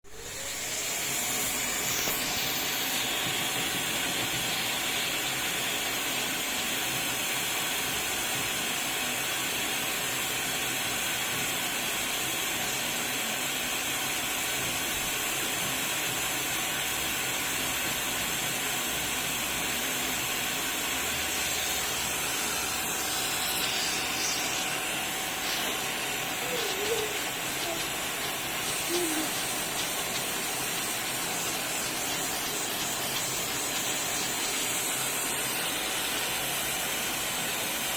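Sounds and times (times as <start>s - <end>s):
vacuum cleaner motor running: 0.1s - 37.9s.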